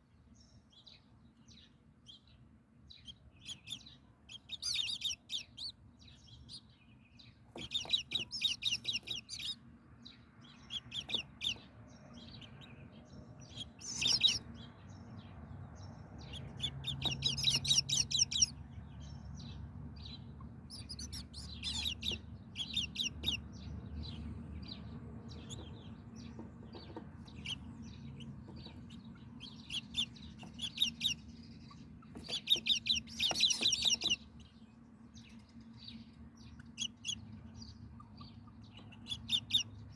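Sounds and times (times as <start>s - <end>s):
faint low hum: 0.0s - 39.9s
small birds chirping: 0.0s - 39.9s.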